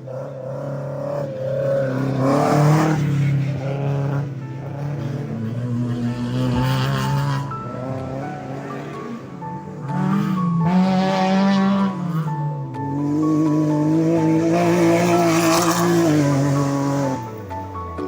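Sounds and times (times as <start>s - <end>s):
car engine revving high: 0.0s - 17.7s
background music: 0.0s - 18.0s.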